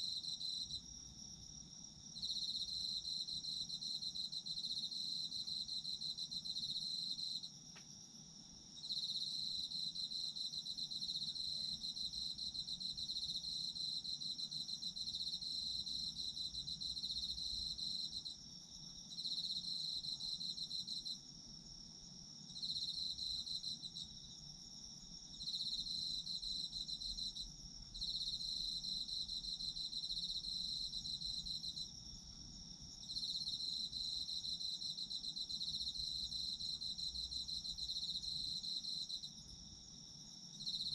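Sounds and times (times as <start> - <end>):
cricket chirping in bouts: 0.0 - 40.9.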